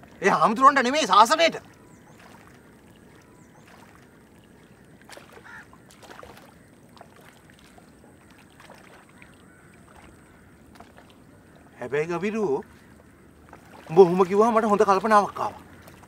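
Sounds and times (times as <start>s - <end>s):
water lapping and splashing: 0.0s - 16.0s.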